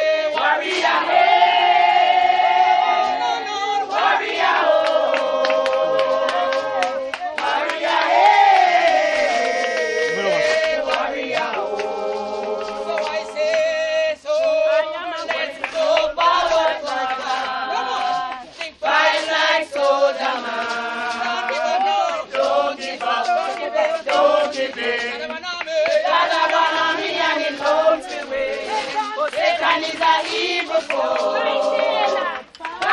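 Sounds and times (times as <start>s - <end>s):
crowd singing gospel song: 0.0s - 32.9s.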